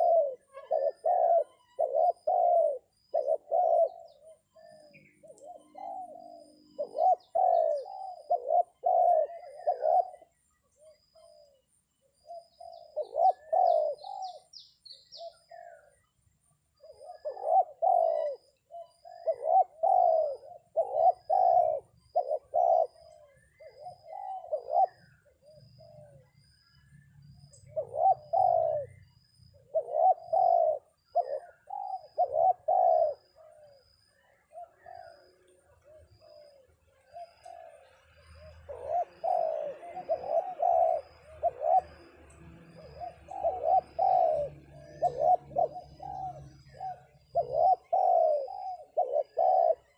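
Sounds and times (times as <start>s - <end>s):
dove cooing: 0.0s - 49.9s
faint high chirps: 0.0s - 49.9s.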